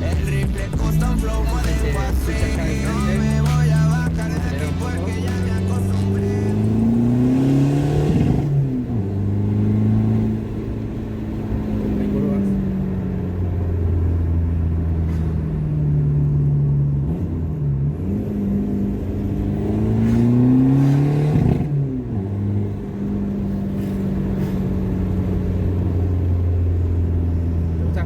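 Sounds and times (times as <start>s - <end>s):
car exhaust drone: 0.0s - 28.0s.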